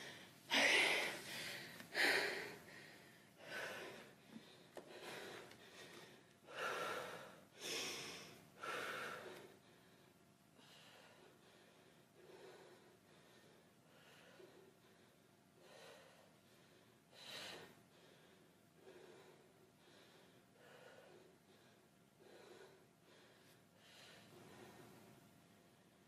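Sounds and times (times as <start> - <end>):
woman breathing hard: 0.0 - 26.0.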